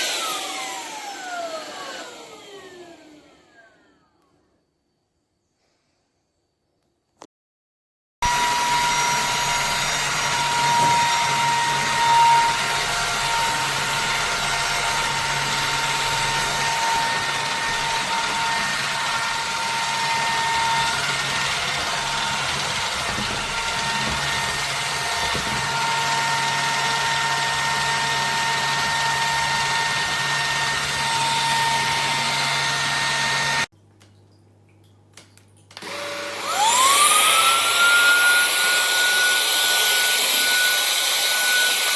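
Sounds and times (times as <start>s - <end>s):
stick vacuum running: 0.0s - 4.3s, 8.2s - 33.7s, 35.8s - 41.9s.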